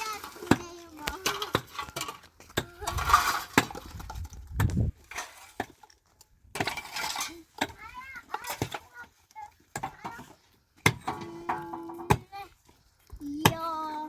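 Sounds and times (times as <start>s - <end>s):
scraping: 0.0s - 12.7s.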